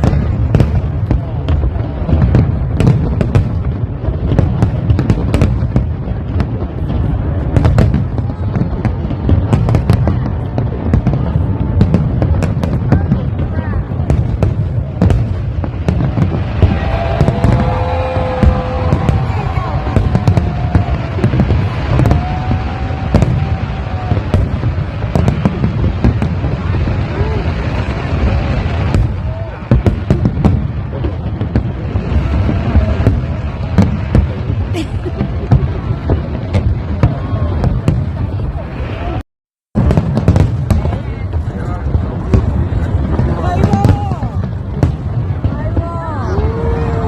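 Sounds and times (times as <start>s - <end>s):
distant fireworks rumble: 0.0s - 47.0s
fireworks bangs and crackling: 0.0s - 47.0s.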